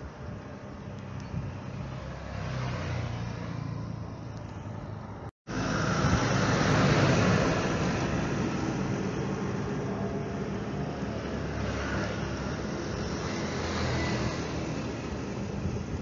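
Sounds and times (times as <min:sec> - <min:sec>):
distant jet engines roaring: 0:00.0 - 0:16.0.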